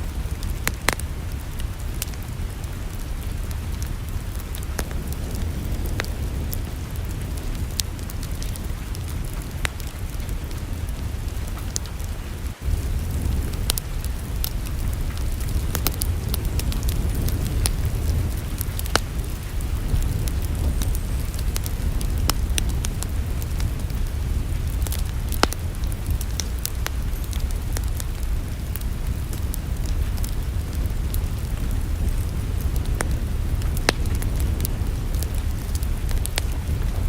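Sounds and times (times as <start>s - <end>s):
low rush of flames: 0.0s - 37.0s
wood fire crackling and popping: 0.0s - 37.0s.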